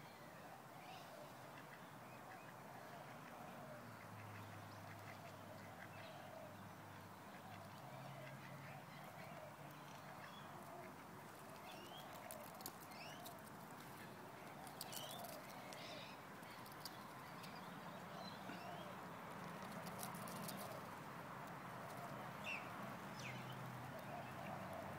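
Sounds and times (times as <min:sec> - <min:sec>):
soft bird chatter: 0:00.0 - 0:24.9.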